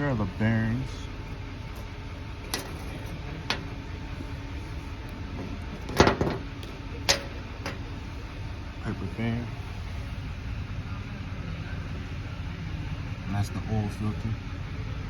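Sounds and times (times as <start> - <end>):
steady shop hum: 0.0 - 15.0.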